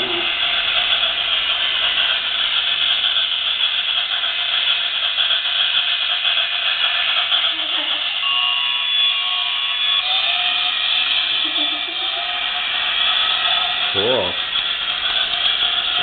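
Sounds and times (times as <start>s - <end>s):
faint steady tones: 0.0s - 16.0s
toy train whirring rattle: 0.0s - 16.0s.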